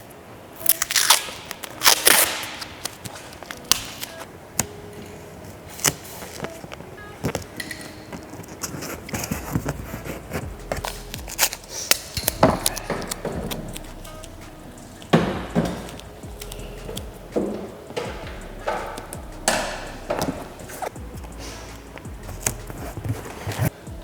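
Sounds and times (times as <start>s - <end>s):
masking tape ripping off roll: 0.6s - 4.8s, 5.7s - 23.8s.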